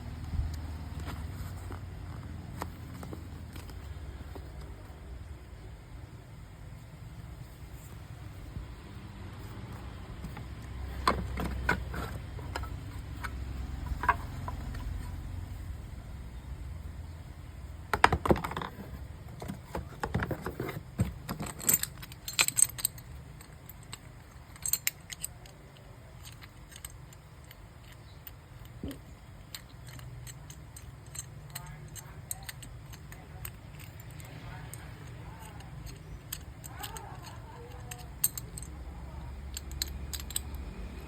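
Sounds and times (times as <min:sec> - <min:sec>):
metal parts clicking and clinking: 0:00.3 - 0:05.0, 0:09.8 - 0:15.6, 0:17.9 - 0:41.0.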